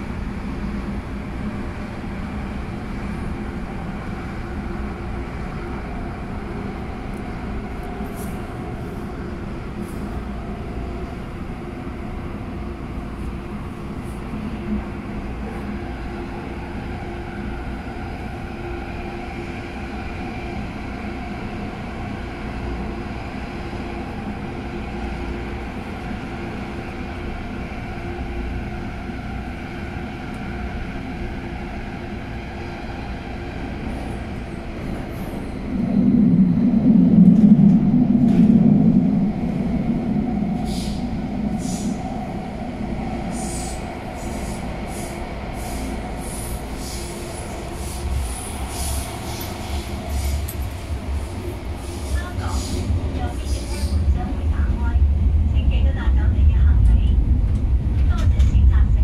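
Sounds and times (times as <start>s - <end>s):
train carriage rumble: 0.0s - 59.0s.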